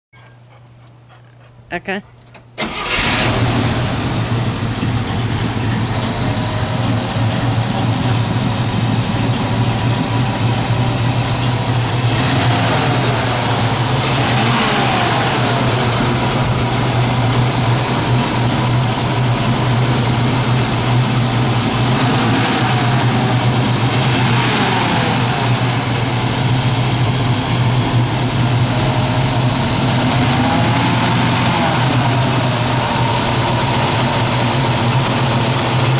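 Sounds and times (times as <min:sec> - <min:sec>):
car engine starting and idling: 0:02.4 - 0:35.9.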